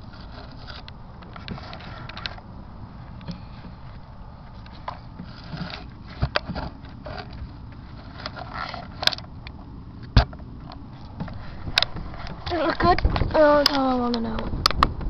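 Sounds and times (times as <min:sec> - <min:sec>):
knocks and scrapes against wood: 0:00.0 - 0:02.4, 0:03.2 - 0:09.3, 0:10.0 - 0:14.0.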